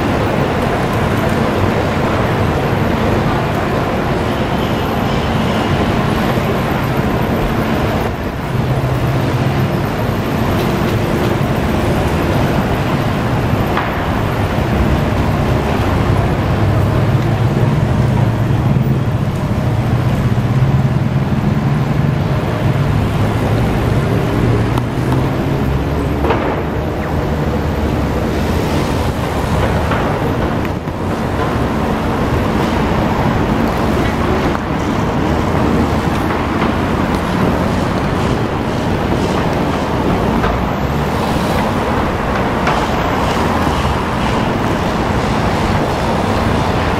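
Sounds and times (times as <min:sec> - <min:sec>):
passing traffic: 0:00.0 - 0:46.9.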